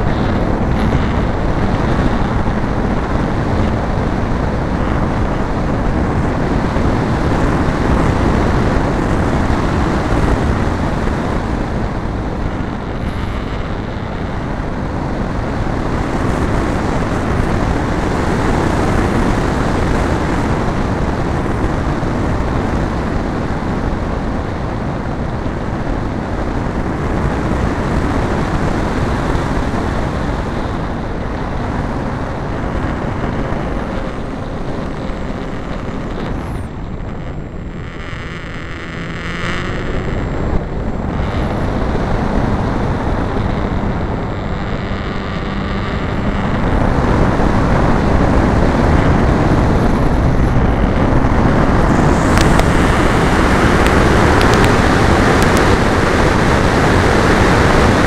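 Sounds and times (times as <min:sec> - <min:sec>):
model plane motor and propeller: 0:00.0 - 0:58.0
wind rushing over camera: 0:00.0 - 0:58.0.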